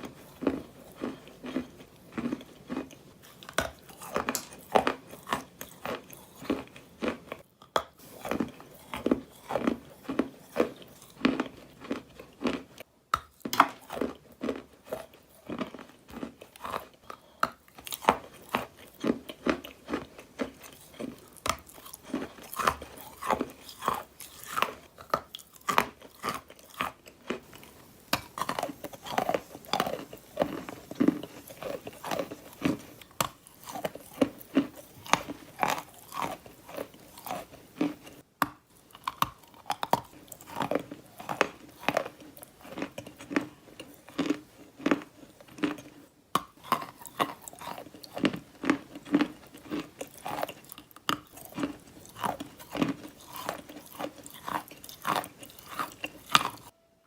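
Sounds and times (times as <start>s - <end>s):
wet grainy crunching: 0.0s - 7.4s, 8.0s - 56.7s.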